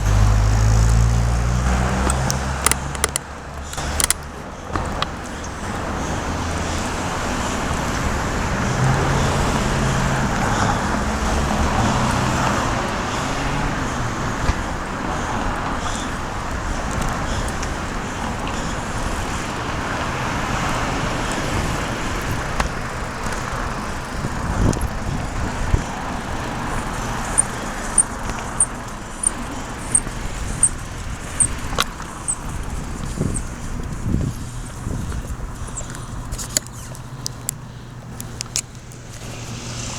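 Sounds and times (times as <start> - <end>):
engine hum: 0.0 - 39.9
street traffic rumble: 0.0 - 39.9.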